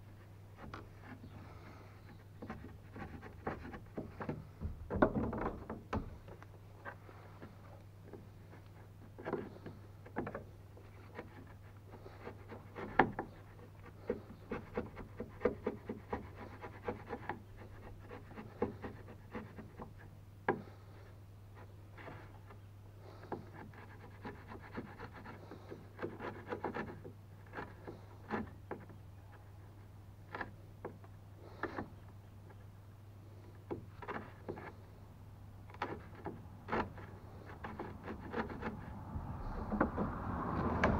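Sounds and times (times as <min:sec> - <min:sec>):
wood chisel paring and scraping: 0:00.6 - 0:21.0, 0:21.6 - 0:32.7, 0:33.3 - 0:35.0, 0:35.6 - 0:40.9.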